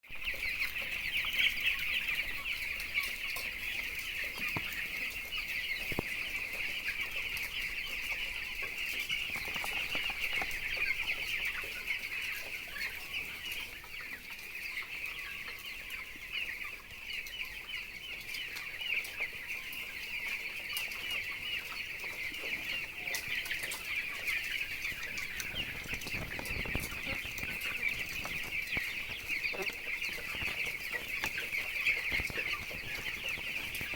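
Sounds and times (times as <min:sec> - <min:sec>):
chicks peeping: 0:00.0 - 0:33.9.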